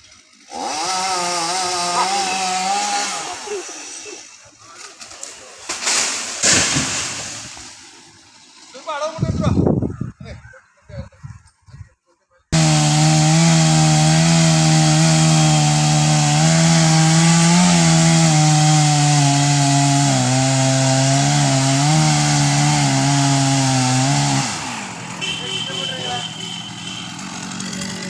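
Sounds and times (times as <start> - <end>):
chainsaw cutting wood: 0.1 - 8.6, 12.6 - 25.4, 26.8 - 28.0.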